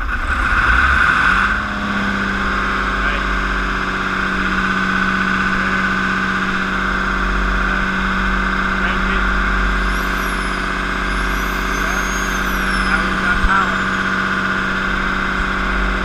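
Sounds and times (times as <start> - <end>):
diesel generator engine drone: 0.0 - 16.0
faint high whine: 0.0 - 16.0.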